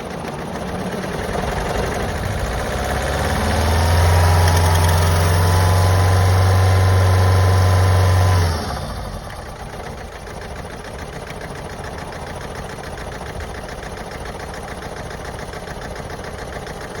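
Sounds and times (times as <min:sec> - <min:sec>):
car engine revving and idling: 0:00.0 - 0:15.2.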